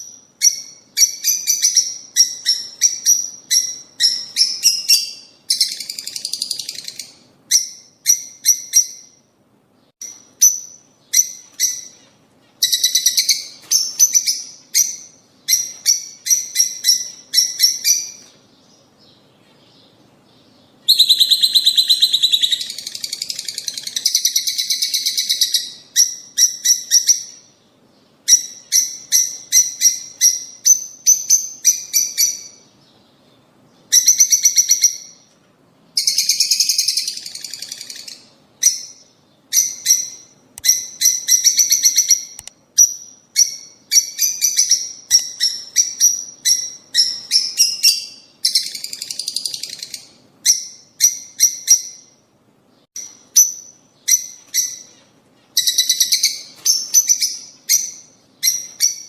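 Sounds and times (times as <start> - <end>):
lovebirds chirping: 0.0 - 35.4, 36.0 - 59.0.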